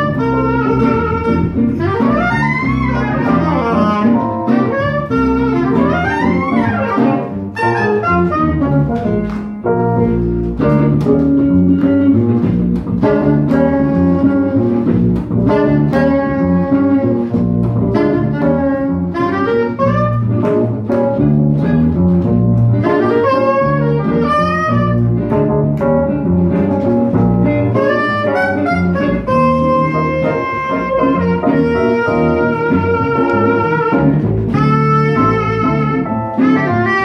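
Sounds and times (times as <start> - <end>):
soprano saxophone melody: 0.0 - 25.4, 27.2 - 37.0
electric keyboard: 0.0 - 37.0
guitar: 0.0 - 37.0
upright double bass: 0.0 - 37.0.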